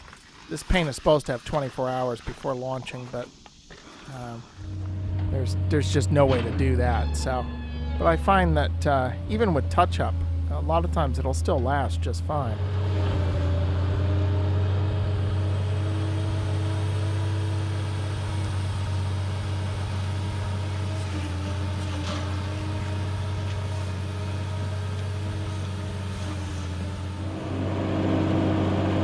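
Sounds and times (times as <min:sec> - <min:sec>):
engine droning: 0:03.9 - 0:29.0.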